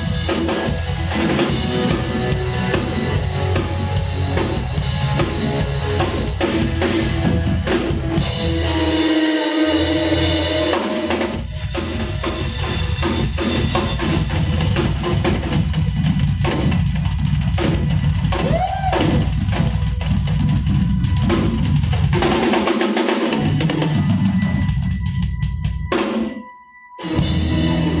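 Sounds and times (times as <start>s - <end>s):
live band playing: 0.0s - 26.4s, 27.0s - 28.0s.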